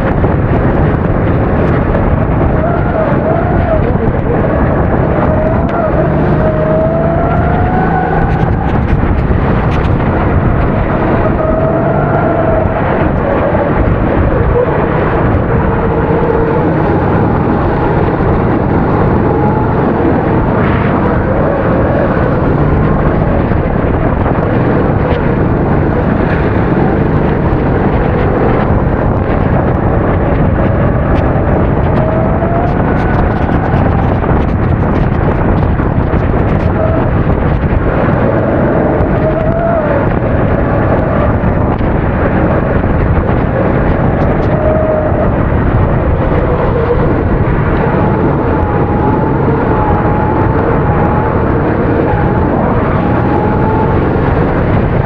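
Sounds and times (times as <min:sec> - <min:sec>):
kart engine revving: 0:00.0 - 0:55.0
steady rushing noise: 0:00.0 - 0:55.0.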